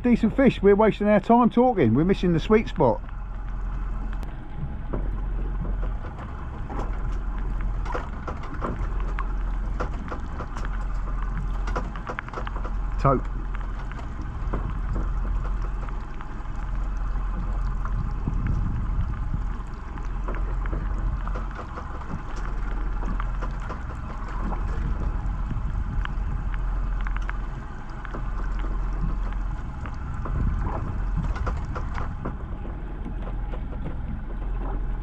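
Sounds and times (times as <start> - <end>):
boat engine rumbling: 0.0 - 35.0
rain pattering: 0.0 - 35.0
water noise: 0.0 - 35.0.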